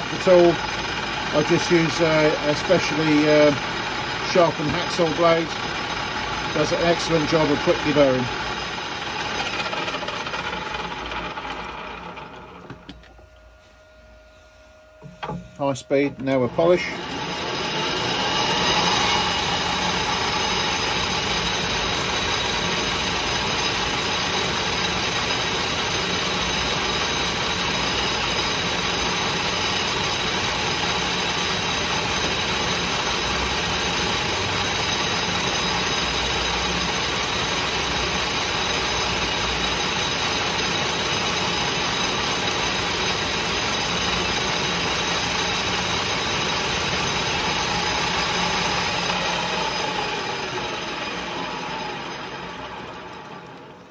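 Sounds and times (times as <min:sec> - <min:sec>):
metal lathe running with whine: 0:00.0 - 0:53.9.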